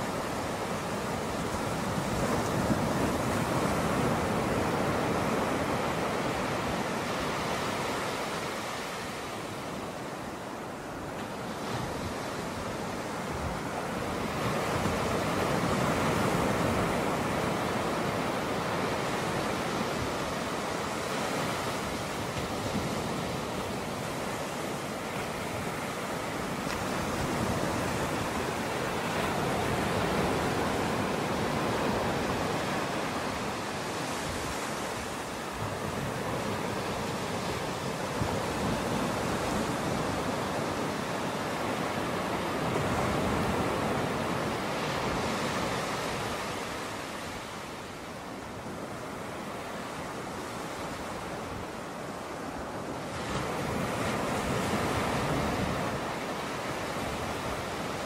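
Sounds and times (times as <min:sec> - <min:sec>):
ocean surf on a beach: 0:00.0 - 0:58.0.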